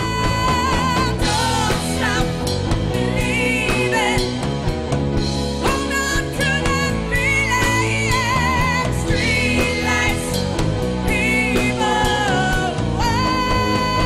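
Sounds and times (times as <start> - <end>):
bass guitar: 0.0 - 14.0
drum kit: 0.0 - 14.0.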